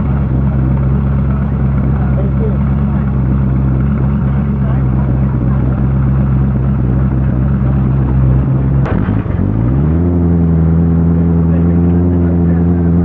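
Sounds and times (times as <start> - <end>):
supercharged car engine running: 0.0 - 13.0.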